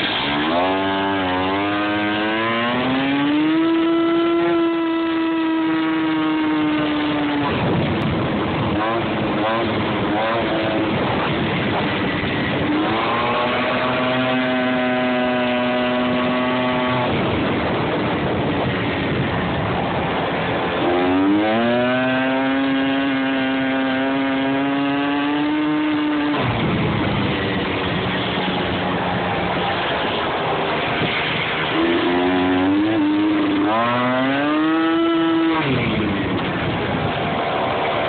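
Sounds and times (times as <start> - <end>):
rushing riding noise: 0.0 - 38.0
scooter engine accelerating: 0.0 - 38.0.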